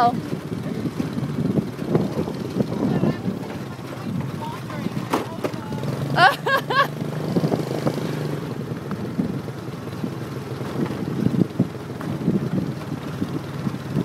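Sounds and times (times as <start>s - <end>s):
motorbike engine running: 0.0s - 14.0s
wind rumbling on microphone: 0.0s - 14.0s.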